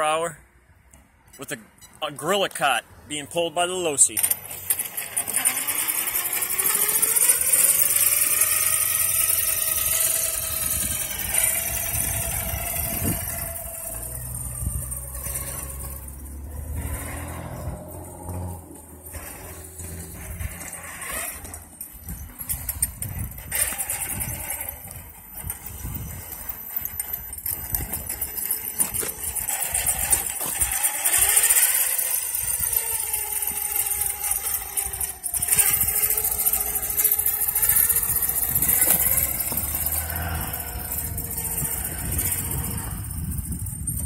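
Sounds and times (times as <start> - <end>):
electric motor whining: 4.2 - 44.0.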